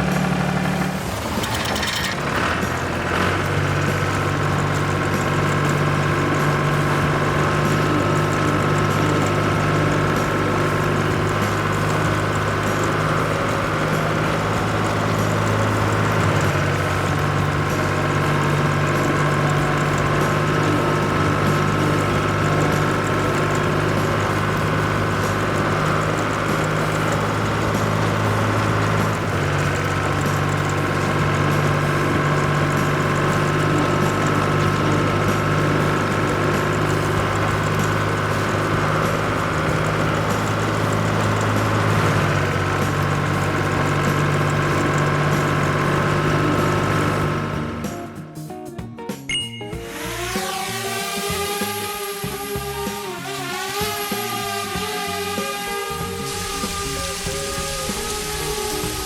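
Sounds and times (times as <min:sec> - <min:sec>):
cartoon vehicle engine droning: 0:00.0 - 0:48.3, 0:49.3 - 0:59.0.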